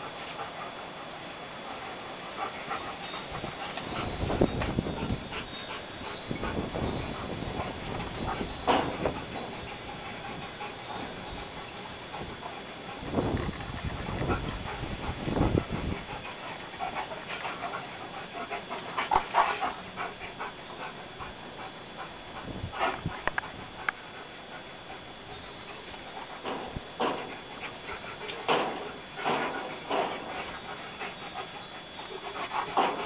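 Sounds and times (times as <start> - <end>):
dogs panting: 0.0 - 33.0.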